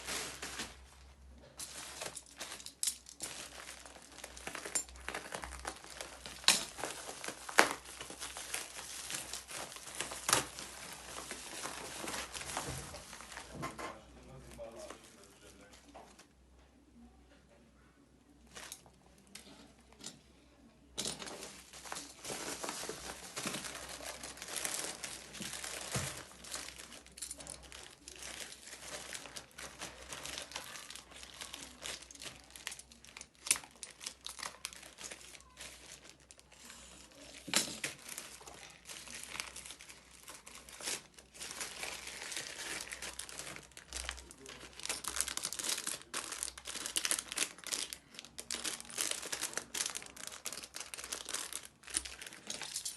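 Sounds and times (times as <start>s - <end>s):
packaging crinkling: 0.0s - 13.6s, 21.0s - 52.9s.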